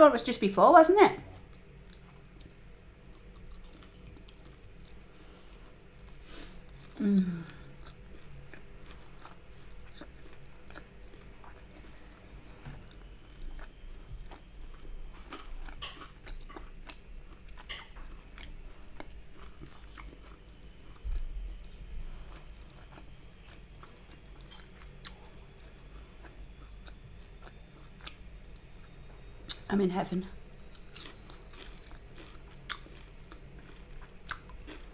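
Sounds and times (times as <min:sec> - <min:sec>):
chewing and crunching food: 0:01.3 - 0:34.9.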